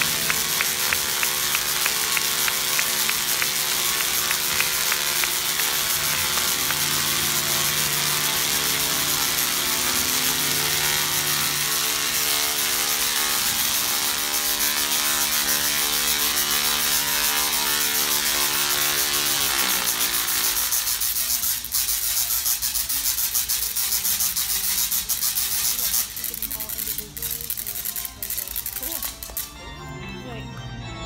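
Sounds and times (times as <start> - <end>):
tesla coil buzzing and crackling: 0.0 - 29.6.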